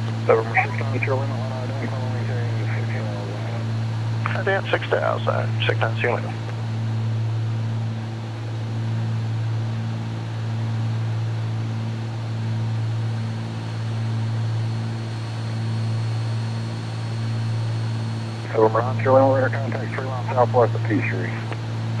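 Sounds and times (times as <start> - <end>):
aircraft cabin engine drone: 0.0 - 22.0.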